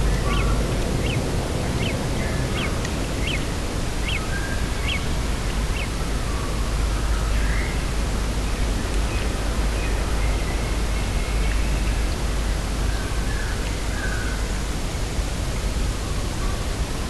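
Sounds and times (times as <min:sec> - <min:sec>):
wind with deep rumble: 0:00.0 - 0:17.0.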